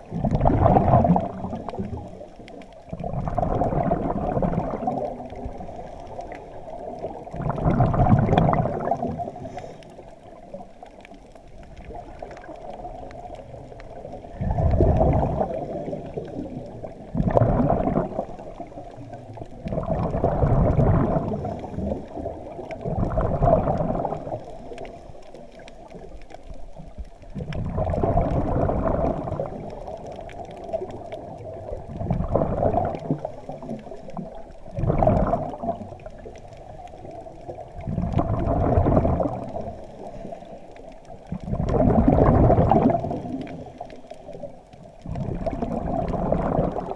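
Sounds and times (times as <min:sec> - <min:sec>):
exhaled bubbles gurgling: 0:00.0 - 0:46.9
underwater background: 0:00.0 - 0:46.9.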